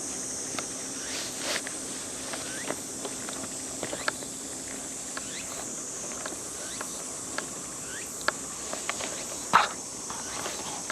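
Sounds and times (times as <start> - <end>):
high insect drone: 0.0 - 10.9.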